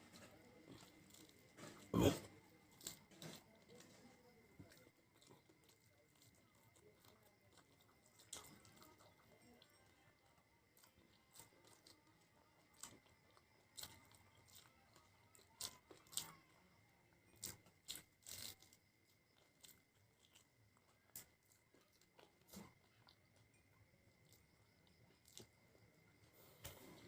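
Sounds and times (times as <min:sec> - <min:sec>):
chewing and crunching food: 0:00.0 - 0:27.0.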